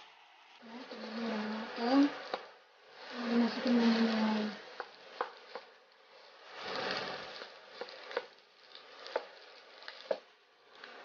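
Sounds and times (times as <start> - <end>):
soft scraping hiss: 0.0 - 11.0.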